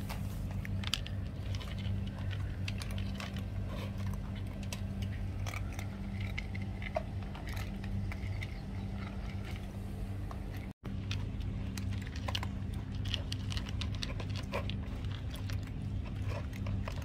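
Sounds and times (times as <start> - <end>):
cat crunching dry food: 0.0 - 17.0
steady low hum: 0.0 - 17.0.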